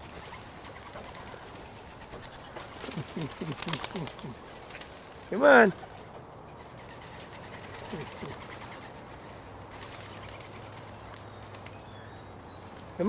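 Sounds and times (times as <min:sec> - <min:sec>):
pigeons cooing: 0:00.0 - 0:12.3
steady background hiss: 0:00.0 - 0:13.0.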